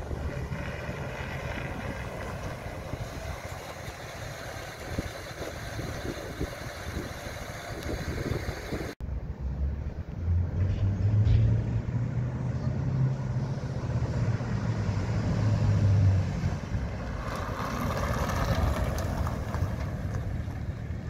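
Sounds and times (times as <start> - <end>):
truck engine exhaust drone: 0.0 - 21.0
truck rushing past: 0.0 - 21.0.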